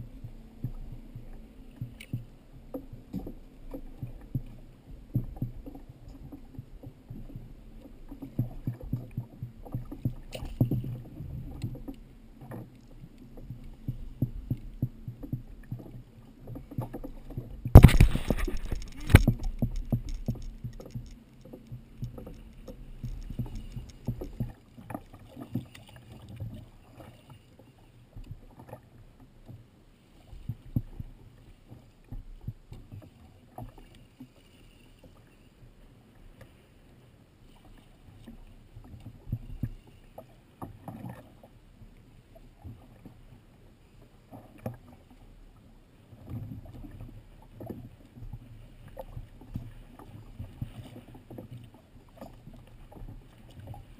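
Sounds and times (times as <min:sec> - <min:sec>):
water lapping against kayak hull: 0:00.0 - 0:53.9.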